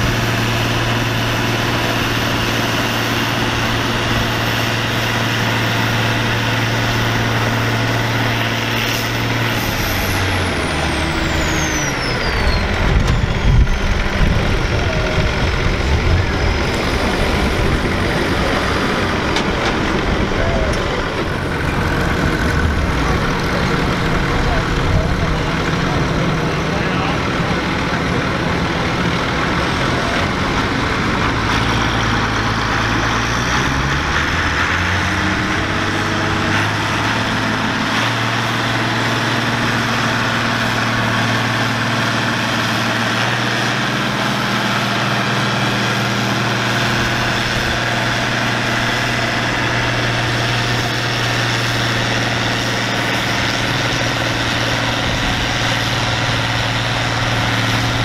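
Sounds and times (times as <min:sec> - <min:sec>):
tractor engine under heavy load: 0:00.0 - 0:58.0.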